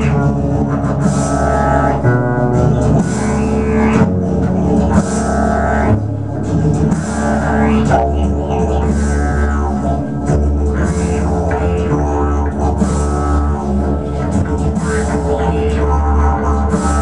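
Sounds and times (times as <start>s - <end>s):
didgeridoo drone: 0.0s - 17.0s.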